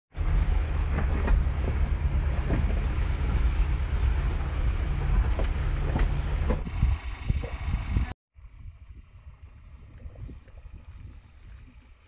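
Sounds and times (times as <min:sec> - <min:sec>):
vehicle rumbling over rough track: 0:00.1 - 0:12.0.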